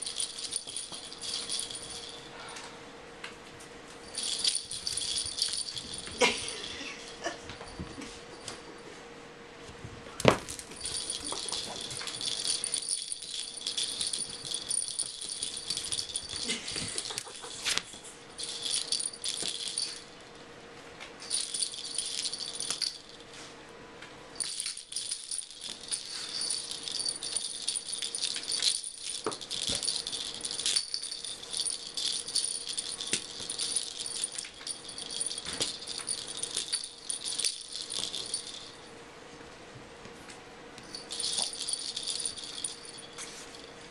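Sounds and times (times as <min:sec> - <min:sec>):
cat wand toy rattling and jingling: 0:00.0 - 0:02.6, 0:04.0 - 0:08.5, 0:10.4 - 0:20.3, 0:21.2 - 0:23.3, 0:24.4 - 0:38.9, 0:40.8 - 0:43.9.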